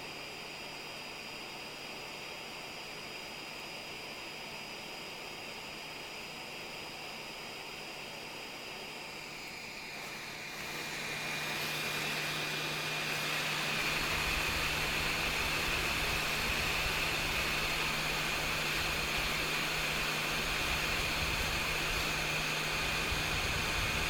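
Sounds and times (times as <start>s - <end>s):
hot-air station blowing hiss: 0.0s - 24.0s.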